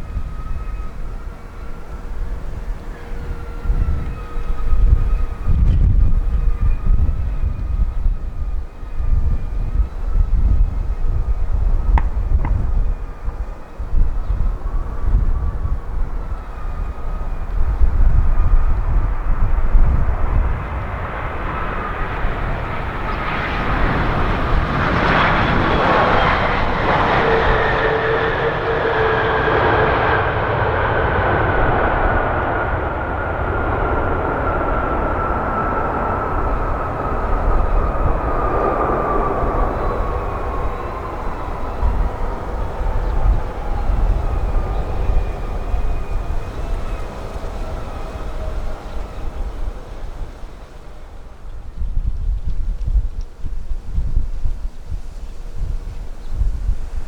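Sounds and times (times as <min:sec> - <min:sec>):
jet airliner engine roar: 0:00.0 - 0:57.0
wind buffeting microphone: 0:00.0 - 0:57.0.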